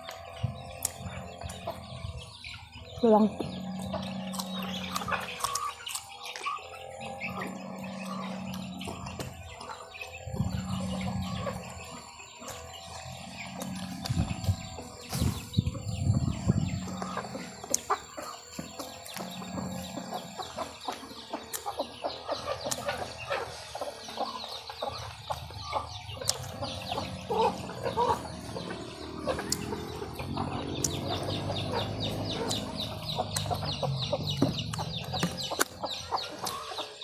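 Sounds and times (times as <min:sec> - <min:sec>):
chickens clucking: 0:00.0 - 0:37.0
low hum: 0:00.0 - 0:37.0.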